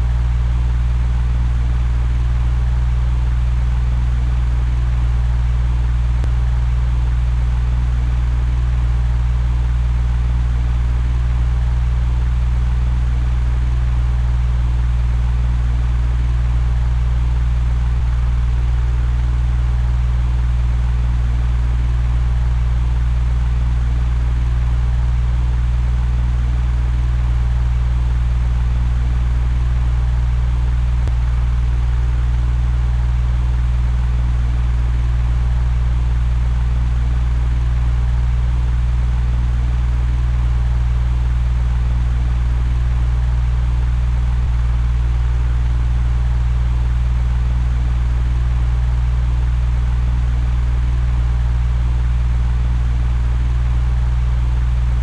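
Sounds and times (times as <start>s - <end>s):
electric fan running: 0.0s - 49.8s.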